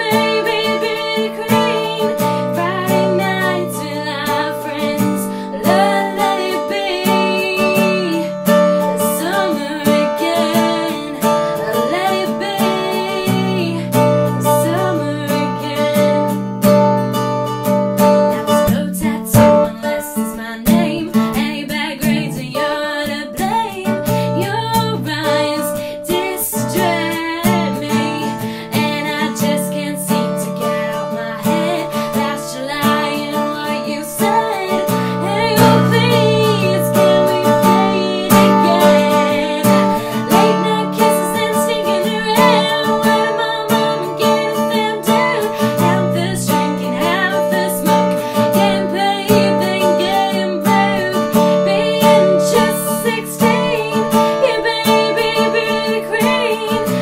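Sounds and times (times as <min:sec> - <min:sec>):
young woman singing: 0:00.0 - 0:16.9, 0:18.0 - 0:57.0
strummed acoustic guitar: 0:00.0 - 0:57.0.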